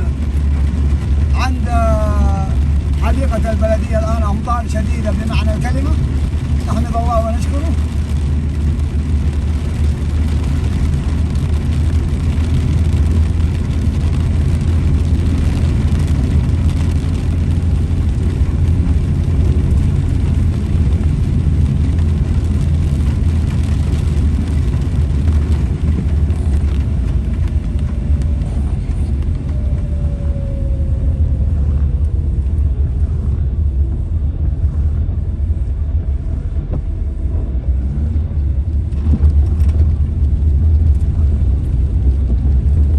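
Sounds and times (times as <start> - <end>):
car engine and tyres rumbling: 0.0 - 42.9
rain and spray hiss: 0.0 - 42.9.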